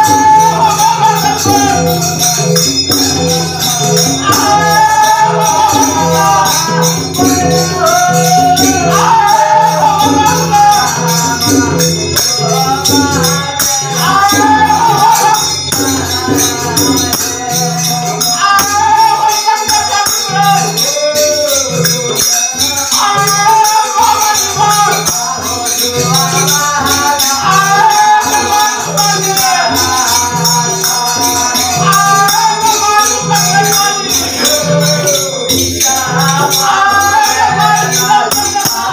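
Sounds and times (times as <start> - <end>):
hand cymbals clashing: 0.0 - 38.9
hand drum rhythm: 0.0 - 38.9
man singing: 0.0 - 38.9.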